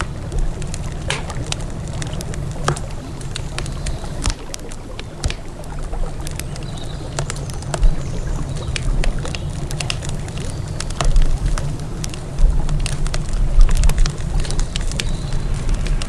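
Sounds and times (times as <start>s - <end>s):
campfire crackling: 0.0s - 16.0s
fire popping: 0.0s - 16.0s
river water flowing: 0.0s - 16.0s.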